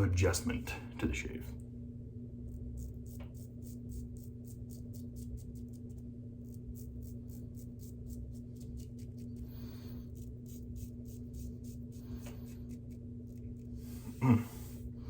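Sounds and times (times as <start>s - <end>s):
low background hum: 0.0s - 15.0s
razor scraping stubble: 2.5s - 14.8s.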